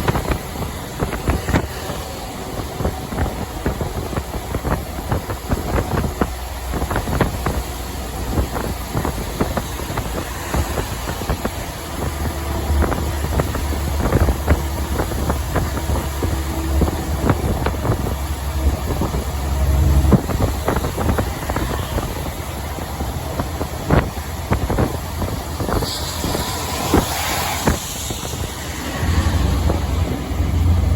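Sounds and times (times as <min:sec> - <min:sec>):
truck engine and road drone: 0:00.0 - 0:30.9.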